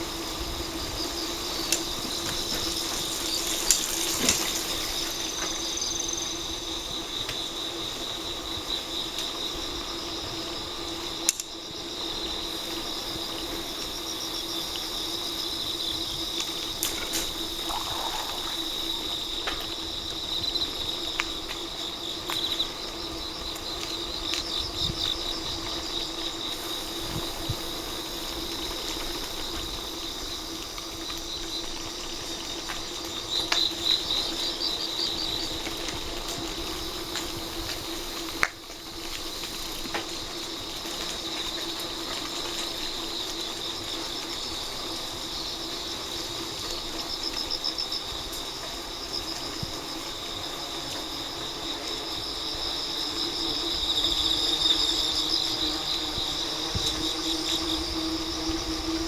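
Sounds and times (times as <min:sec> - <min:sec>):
crickets and insects chirring: 0:00.0 - 0:59.0.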